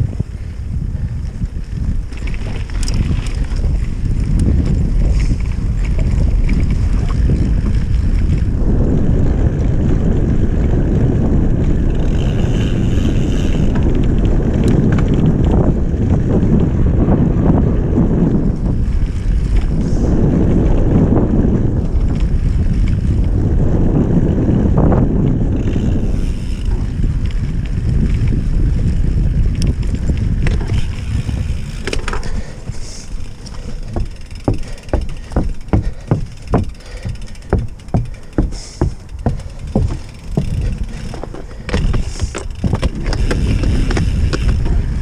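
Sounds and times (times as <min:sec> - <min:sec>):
wind rushing over microphone: 0:00.0 - 0:45.0
bike knocks and rattles: 0:01.0 - 0:23.3, 0:24.3 - 0:45.0.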